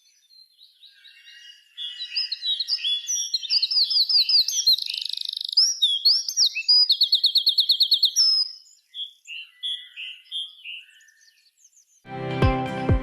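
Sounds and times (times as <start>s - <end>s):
bird trill: 0.0s - 11.9s
songbirds singing: 0.0s - 12.1s.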